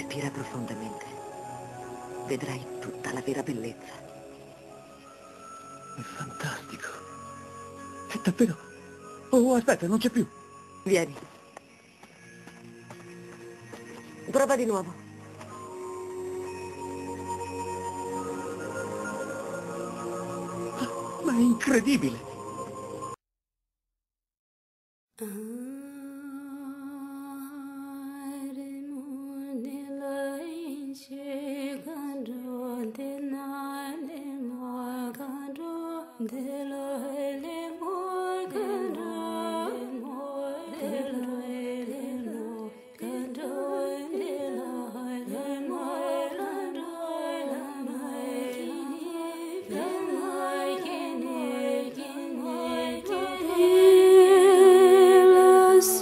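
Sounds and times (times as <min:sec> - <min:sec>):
slow wordless melody: 0:00.0 - 0:23.2, 0:25.2 - 0:56.0.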